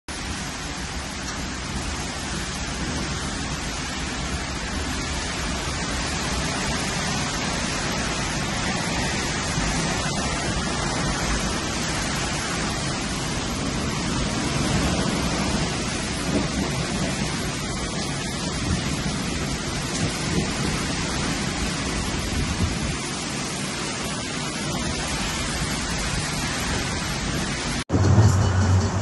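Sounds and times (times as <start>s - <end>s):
strong wind driving rain: 0.1s - 28.2s.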